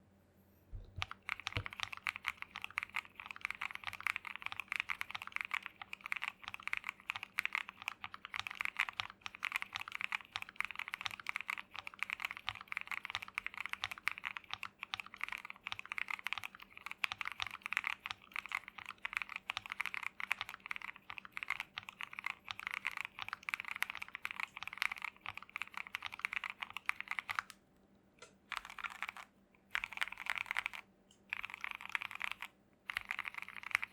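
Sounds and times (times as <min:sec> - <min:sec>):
mechanical keyboard typing: 0:00.8 - 0:27.6, 0:28.5 - 0:33.9.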